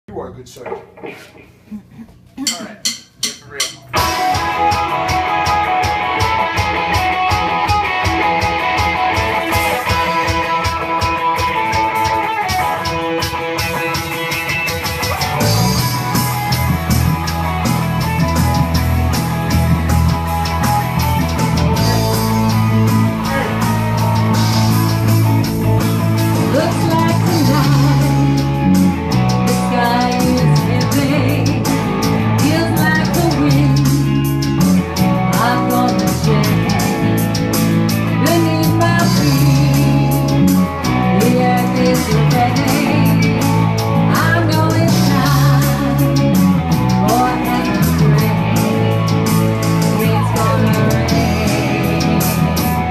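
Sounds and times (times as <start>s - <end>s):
bass guitar: 0.0s - 52.9s
rock band playing: 2.4s - 52.9s
electric guitar notes: 3.8s - 52.9s.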